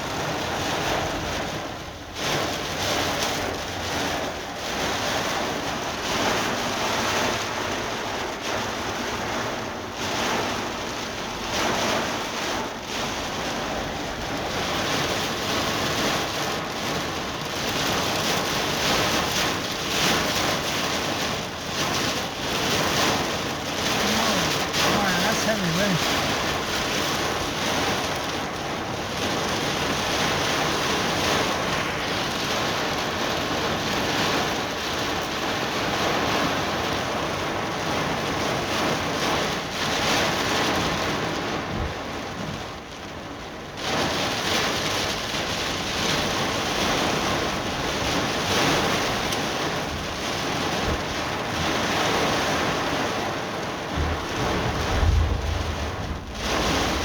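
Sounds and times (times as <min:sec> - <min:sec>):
heavy rain pouring: 0:00.0 - 0:57.0
wind gusting across microphone: 0:00.0 - 0:57.0.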